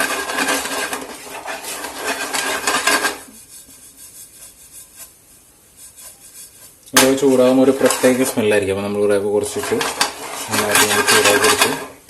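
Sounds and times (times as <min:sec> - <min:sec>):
utensil scraping semolina in pan: 0:00.0 - 0:12.0.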